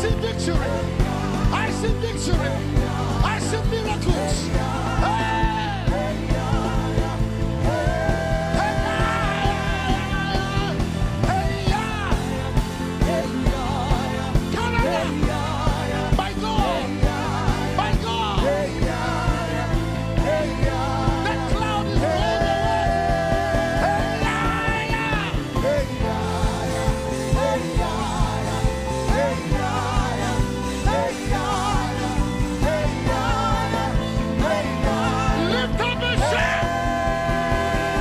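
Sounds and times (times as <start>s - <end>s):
band playing a steady beat: 0.0s - 38.0s.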